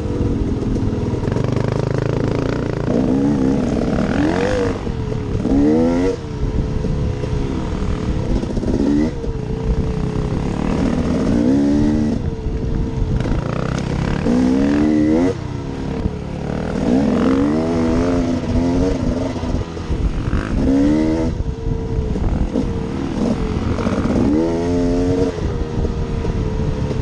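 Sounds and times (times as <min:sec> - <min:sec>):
two-stroke engine revving: 0:00.0 - 0:21.4, 0:22.1 - 0:27.0.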